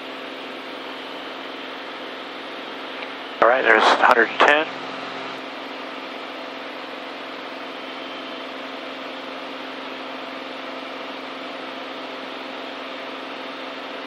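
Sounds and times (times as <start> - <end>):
aircraft engine and propeller drone: 0.0 - 14.0.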